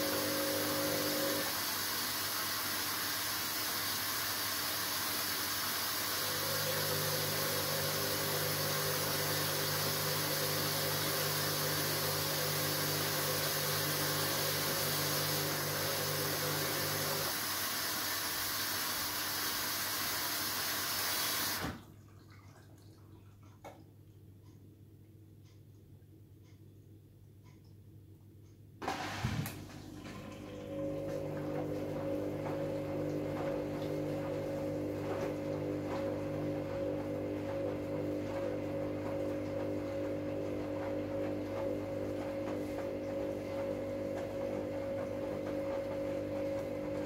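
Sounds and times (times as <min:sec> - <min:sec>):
water rushing in washing machine: 0:00.0 - 0:23.9, 0:28.8 - 0:47.0.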